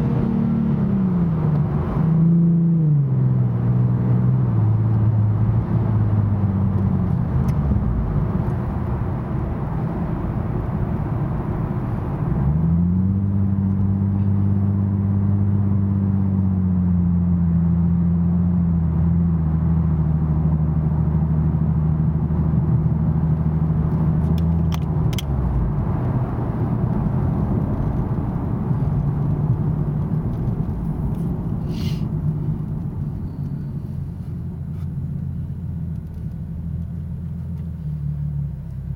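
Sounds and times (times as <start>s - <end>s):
car engine: 0.0s - 38.9s
low exhaust tone: 0.0s - 38.9s
road rumble: 0.0s - 38.9s.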